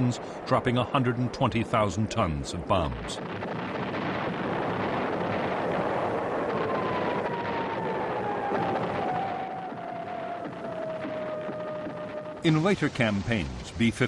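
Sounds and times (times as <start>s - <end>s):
rumbling bomb blasts: 0.0s - 14.0s.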